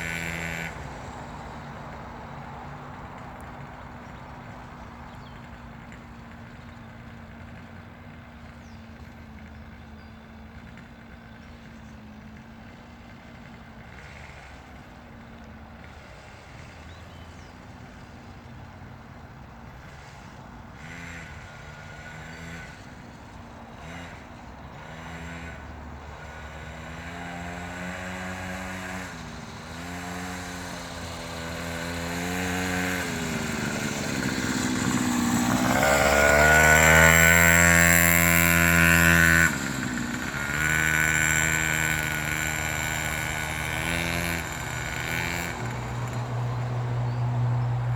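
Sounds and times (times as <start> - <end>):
motocross bike engine: 0.0 - 47.9.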